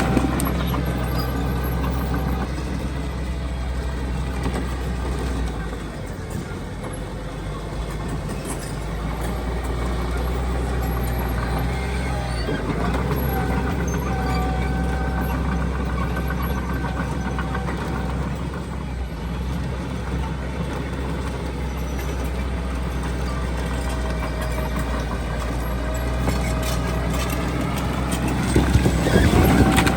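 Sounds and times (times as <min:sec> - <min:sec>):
heavy machinery diesel engine rumble: 0:00.0 - 0:29.9.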